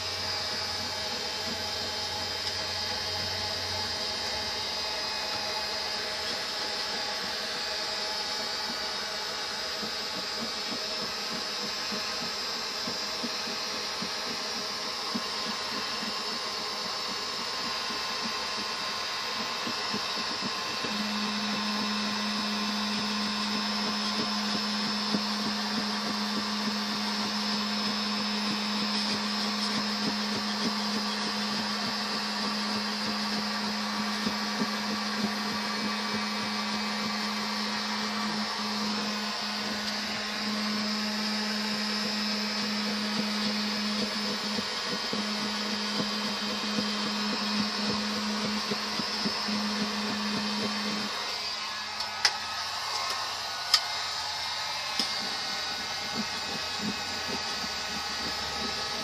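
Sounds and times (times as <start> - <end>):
electric fan motor humming: 0.0 - 59.0.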